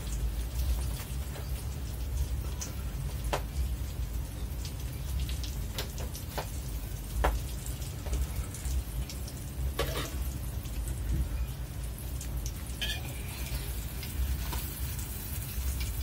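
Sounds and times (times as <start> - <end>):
hot wok crackling: 0.0 - 16.0.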